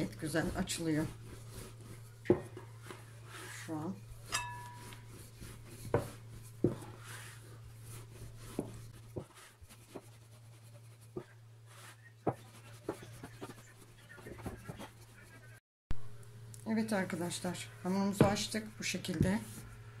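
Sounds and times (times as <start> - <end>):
rolling pin rubbing dough: 0.0 - 15.6, 17.0 - 19.8.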